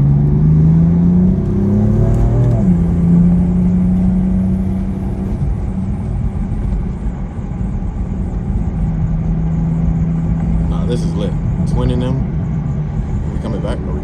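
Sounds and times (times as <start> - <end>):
car engine drone: 0.0 - 14.0
road rumble: 0.0 - 14.0.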